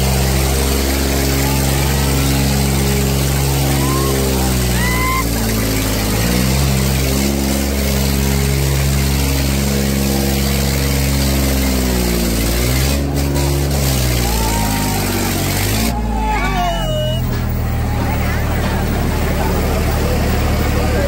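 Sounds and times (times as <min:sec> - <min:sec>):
tractor diesel engine labouring: 0:00.0 - 0:21.0.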